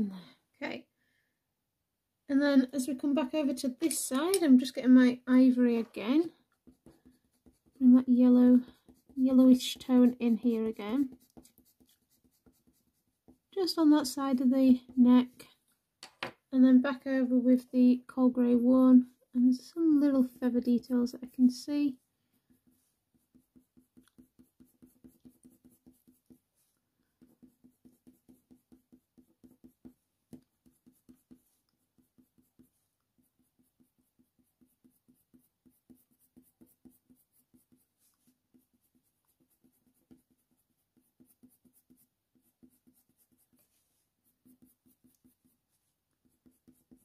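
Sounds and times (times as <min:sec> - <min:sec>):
pencil scratching on paper: 0:03.5 - 0:15.6, 0:19.8 - 0:47.0.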